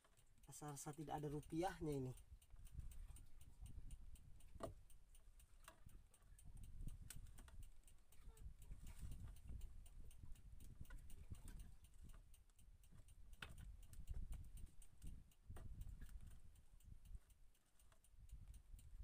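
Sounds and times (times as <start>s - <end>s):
faint even ticking: 0.0s - 19.0s
low rumble of water and wind: 0.0s - 19.0s
soft clicks of fishing line: 0.0s - 19.0s.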